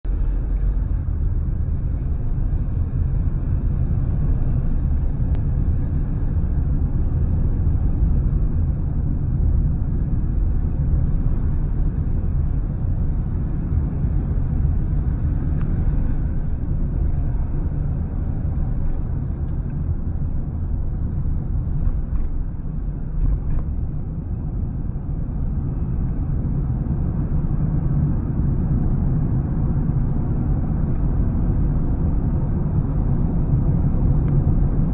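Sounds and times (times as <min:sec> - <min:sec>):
car cabin road rumble: 0:00.0 - 0:34.9.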